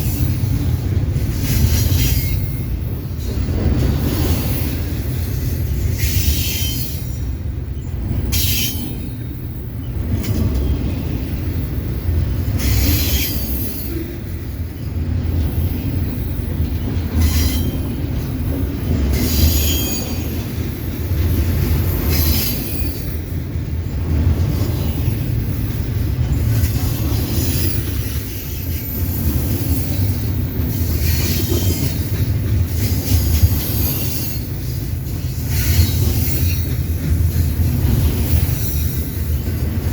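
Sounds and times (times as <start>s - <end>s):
freight cars rumbling: 0.0s - 39.9s.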